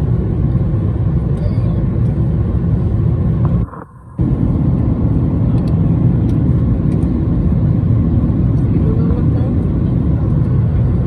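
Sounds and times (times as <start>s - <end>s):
aeroplane low rumble: 0.0s - 11.0s.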